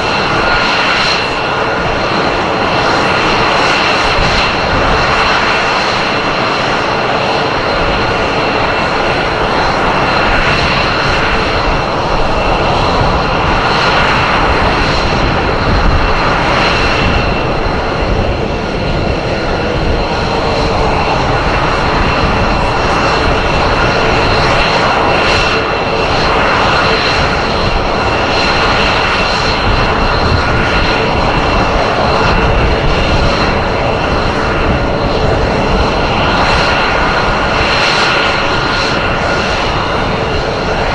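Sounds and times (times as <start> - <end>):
jet fighter engines roaring: 0.0 - 40.9.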